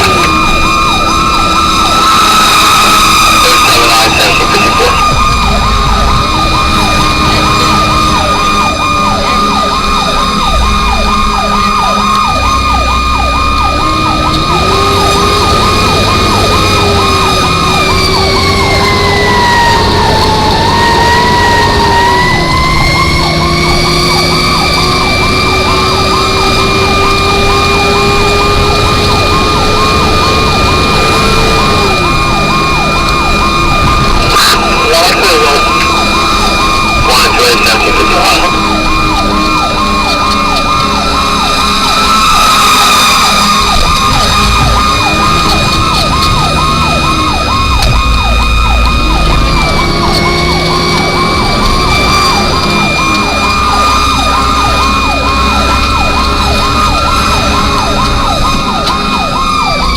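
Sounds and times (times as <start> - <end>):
siren yelp warbling: 0.0 - 59.9
steady siren tone: 0.0 - 59.9
truck engine running: 0.0 - 59.9.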